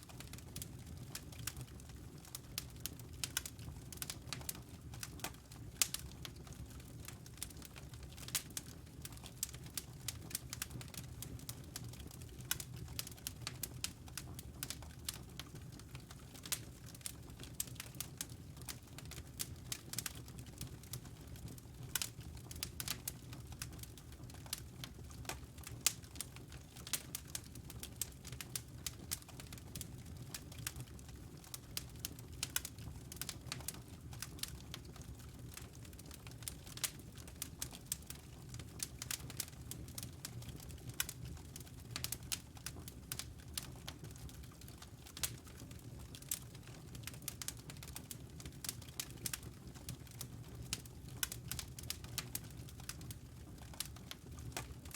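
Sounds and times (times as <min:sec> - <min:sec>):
low rumble of burning logs: 0:00.0 - 0:54.9
wood fire crackling and popping: 0:00.0 - 0:54.9.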